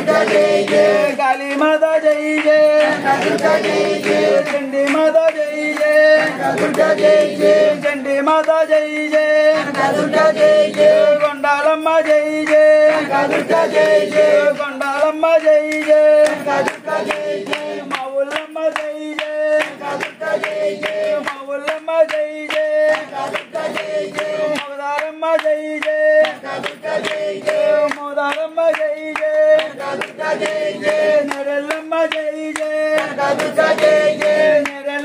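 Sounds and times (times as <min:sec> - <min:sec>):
group devotional singing: 0:00.0 - 0:35.0
hand claps keeping time: 0:00.0 - 0:35.0.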